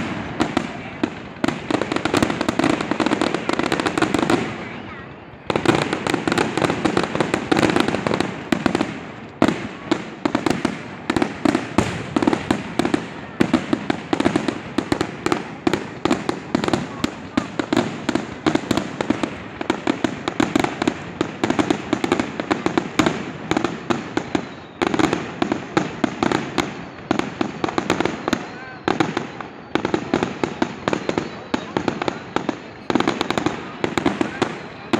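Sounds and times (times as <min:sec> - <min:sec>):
fireworks bangs and crackling: 0:00.0 - 0:34.9.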